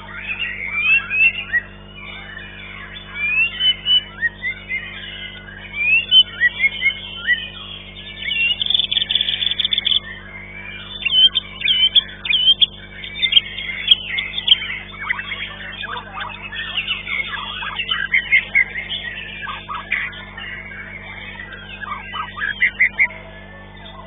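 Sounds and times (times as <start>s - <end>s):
birds singing and chattering: 0.0s - 24.0s
steady low hum: 0.0s - 24.0s.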